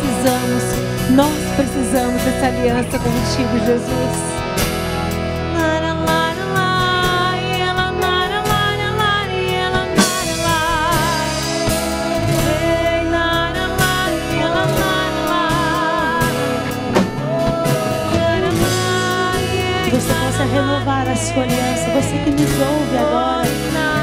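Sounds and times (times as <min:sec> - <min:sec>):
person singing with vibrato: 0:00.0 - 0:04.5, 0:05.5 - 0:24.0
drum kit: 0:00.0 - 0:24.0
guitar: 0:00.0 - 0:24.0.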